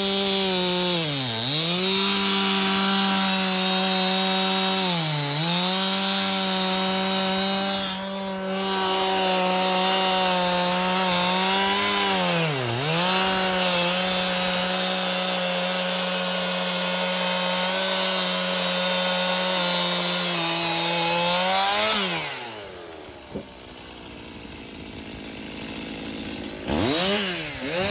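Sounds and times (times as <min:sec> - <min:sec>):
chainsaw cutting log: 0:00.0 - 0:27.9.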